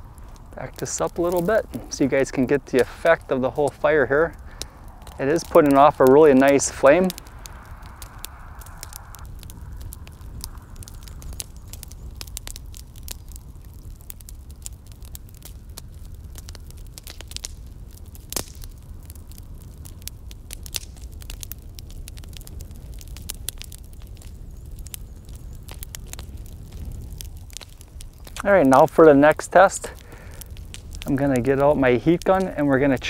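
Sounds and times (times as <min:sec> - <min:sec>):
low steady fire rumble: 0:00.0 - 0:33.0
wood fire crackling and popping: 0:00.0 - 0:33.0.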